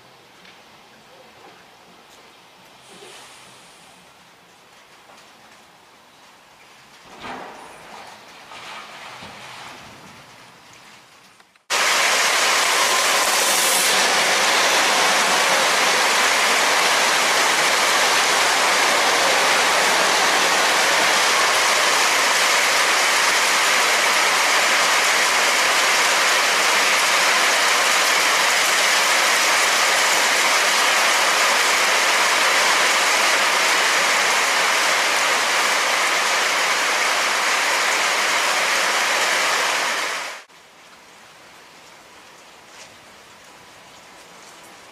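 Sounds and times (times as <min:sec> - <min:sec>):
heavy rain on roof: 0:04.4 - 0:44.9.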